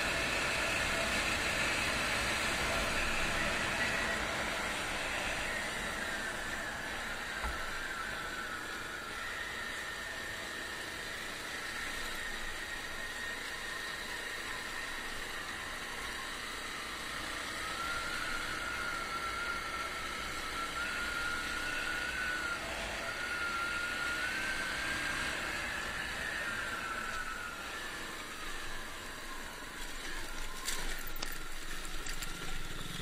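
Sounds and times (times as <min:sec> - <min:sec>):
dirt bike engine whine: 0:00.0 - 0:33.0.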